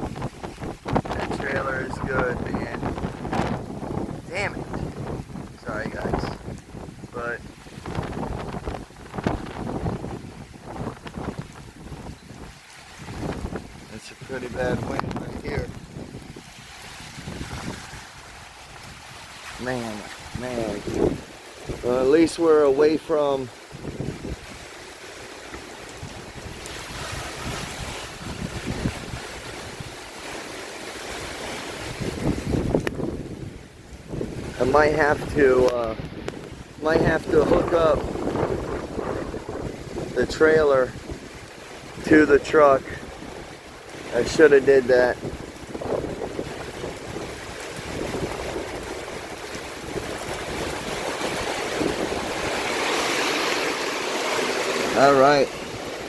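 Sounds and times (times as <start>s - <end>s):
strong gusty wind on microphone: 0.0s - 56.0s.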